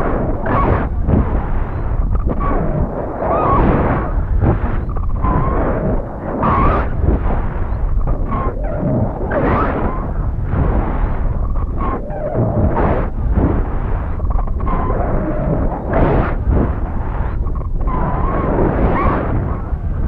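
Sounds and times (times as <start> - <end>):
faint wavering whistles: 0.0 - 20.0
wind buffeting a microphone: 0.0 - 20.0.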